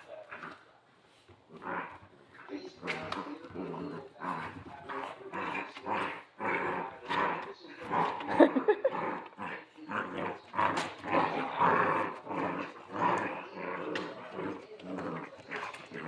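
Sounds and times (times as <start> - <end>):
puppies growling: 0.0 - 0.7, 1.5 - 16.0.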